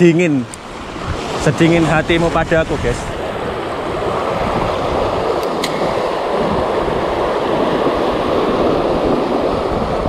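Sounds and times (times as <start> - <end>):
surf breaking over rocks: 0.0 - 10.0.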